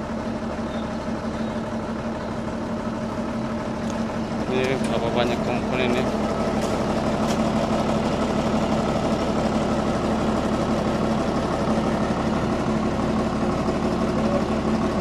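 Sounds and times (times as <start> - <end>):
heavy machinery engine idling: 0.0 - 15.0.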